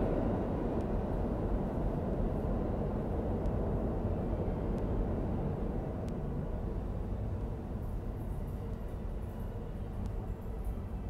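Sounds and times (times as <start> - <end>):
subway train rumbling in tunnel: 0.0 - 11.0.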